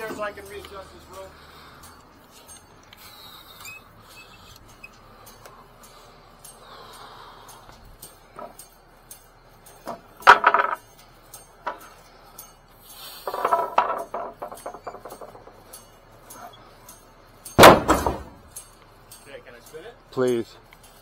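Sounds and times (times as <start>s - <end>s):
metallic clanks and clinks: 0.0s - 21.0s.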